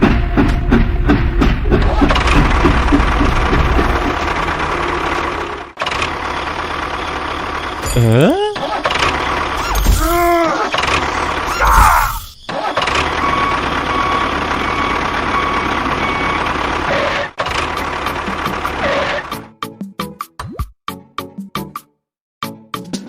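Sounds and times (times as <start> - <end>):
small vehicle engines running: 0.2 - 19.4.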